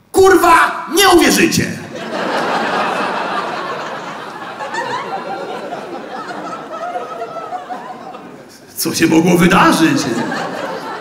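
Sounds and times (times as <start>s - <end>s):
audience laughing: 1.8s - 11.0s.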